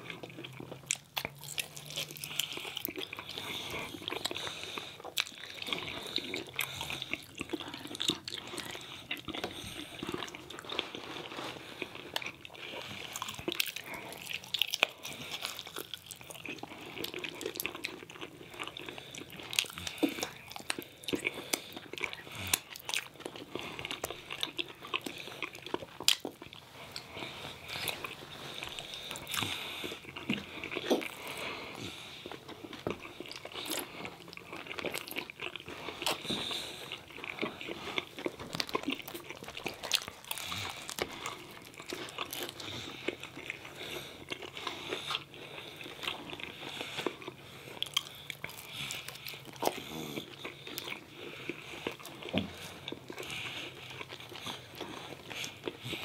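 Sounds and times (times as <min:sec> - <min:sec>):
people chewing food: 0:00.0 - 0:56.0.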